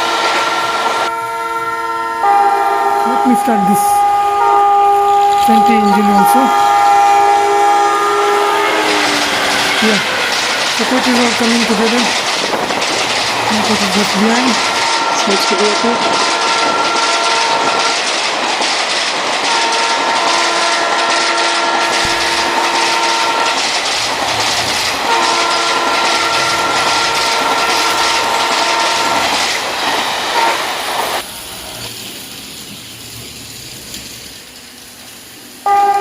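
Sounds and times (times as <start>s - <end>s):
multi-tone train horn: 0.0s - 12.7s, 13.4s - 18.1s, 19.4s - 29.6s, 30.3s - 31.4s, 35.6s - 36.0s
model trains rattling on track: 2.2s - 36.0s.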